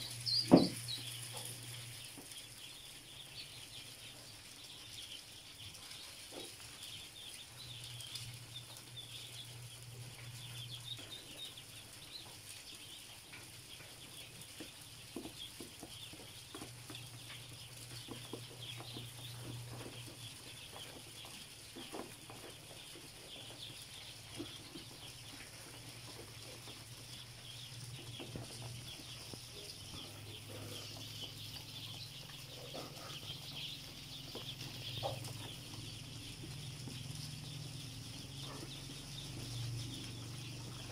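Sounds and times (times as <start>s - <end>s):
ducklings peeping: 0.0s - 40.9s.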